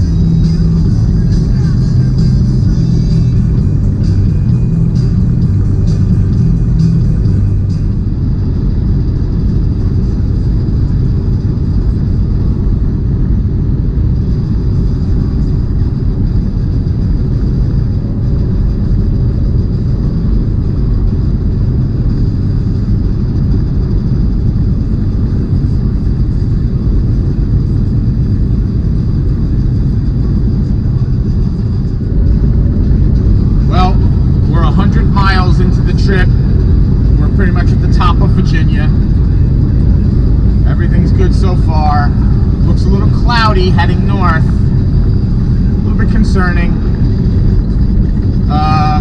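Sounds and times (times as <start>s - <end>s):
road noise inside cab: 0.0s - 49.0s
truck engine rumble: 0.0s - 49.0s.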